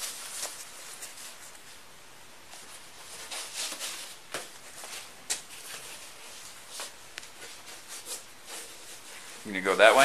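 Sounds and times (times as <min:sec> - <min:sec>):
soft rustling and handling: 0:00.0 - 0:10.0.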